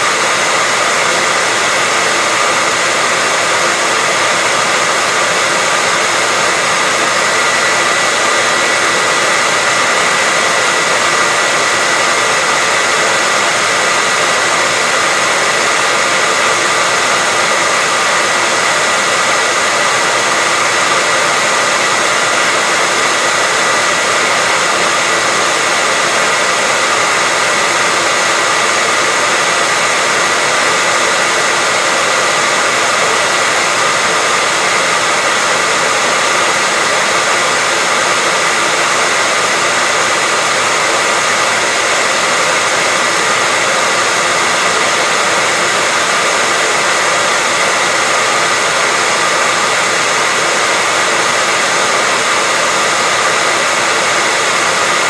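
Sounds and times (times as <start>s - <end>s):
hairdryer running: 0.0s - 55.0s.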